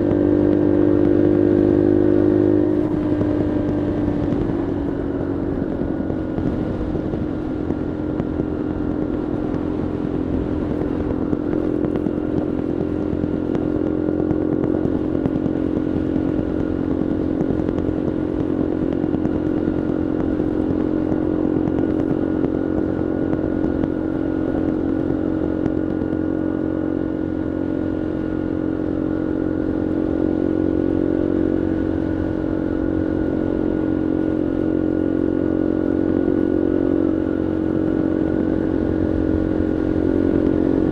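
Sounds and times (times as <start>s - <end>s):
small motorbike engine running: 0.0s - 40.9s.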